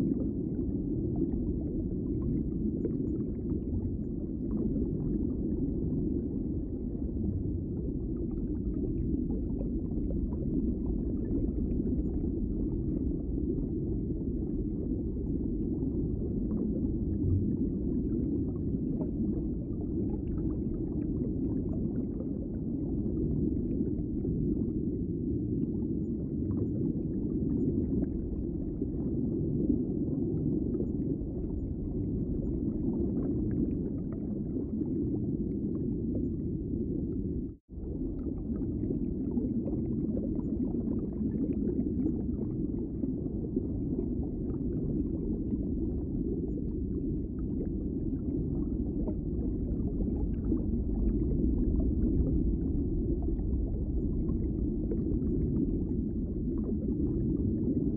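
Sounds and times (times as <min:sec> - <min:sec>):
faint bubbly crackles: 0:00.0 - 0:57.9
muffled underwater rumble: 0:00.0 - 0:57.9.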